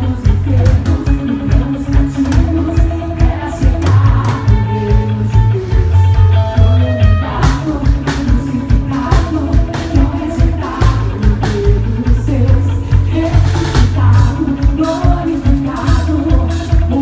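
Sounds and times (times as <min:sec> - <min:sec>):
live band playing worship song: 0:00.0 - 0:17.0
person singing: 0:00.0 - 0:17.0
steady drum beat: 0:00.0 - 0:17.0.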